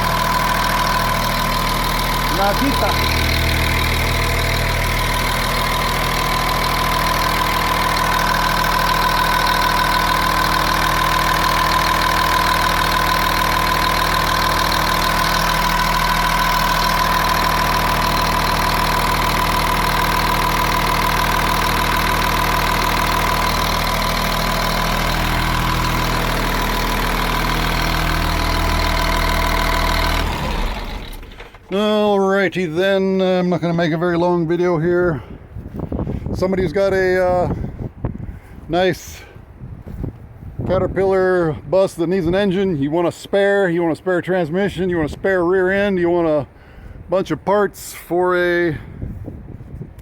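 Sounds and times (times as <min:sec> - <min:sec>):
diesel bus engine idling: 0:00.0 - 0:41.7, 0:42.3 - 0:47.1.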